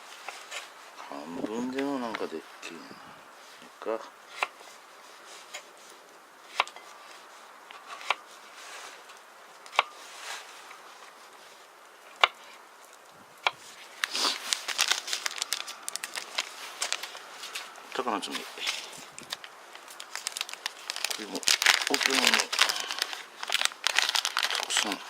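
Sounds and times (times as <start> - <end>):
crinkling and rustling: 0.0 - 2.4, 3.4 - 25.0.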